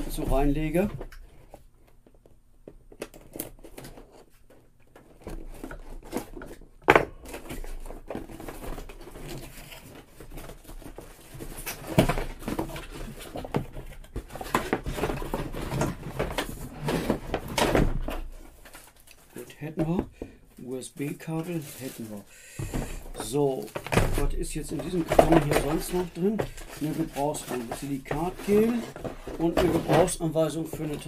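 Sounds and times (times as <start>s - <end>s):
plastic and cardboard rustling: 0.0s - 31.0s.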